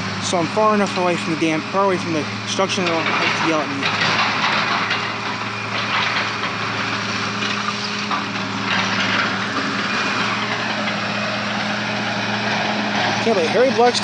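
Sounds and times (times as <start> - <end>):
diesel engines running: 0.0 - 14.0.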